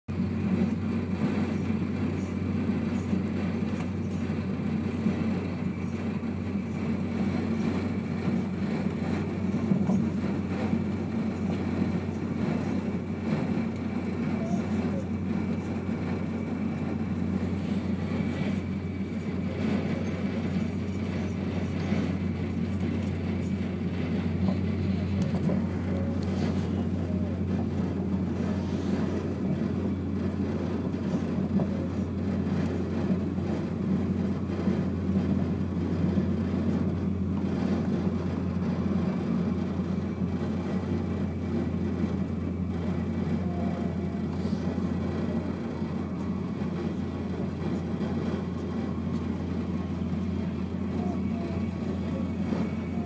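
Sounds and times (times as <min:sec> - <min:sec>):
constant low hum: 0:00.0 - 0:53.0
high-speed train rumbling: 0:00.0 - 0:53.0.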